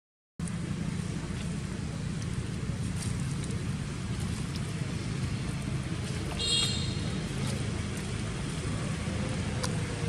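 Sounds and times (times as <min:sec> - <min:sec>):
road traffic rumble: 0:00.4 - 0:10.0.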